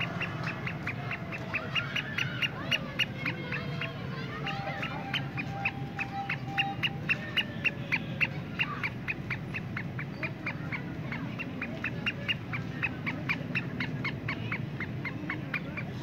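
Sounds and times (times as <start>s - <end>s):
bird chirping rapidly: 0.0s - 16.0s.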